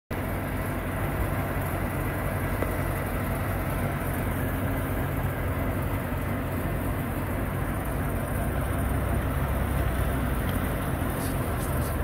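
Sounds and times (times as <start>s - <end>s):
truck diesel engine running: 0.1s - 12.0s.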